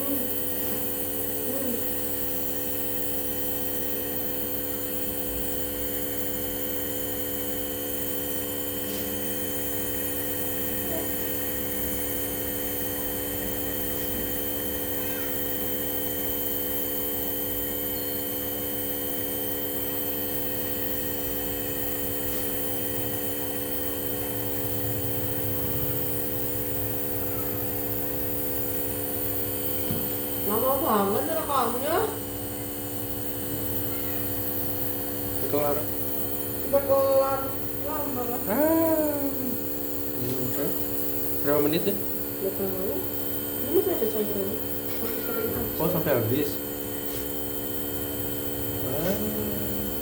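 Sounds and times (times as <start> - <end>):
nebulizer humming: 0.0 - 50.0.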